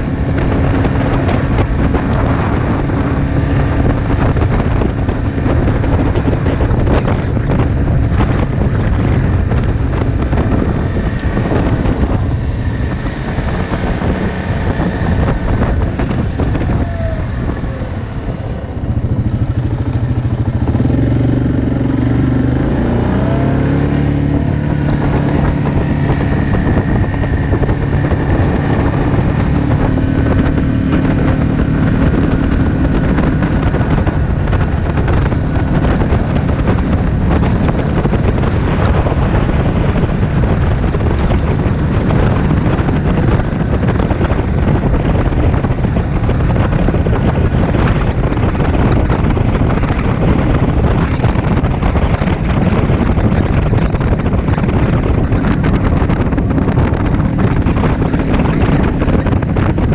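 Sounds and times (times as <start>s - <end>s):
atv engine running: 0.0s - 59.9s
wind: 0.0s - 59.9s.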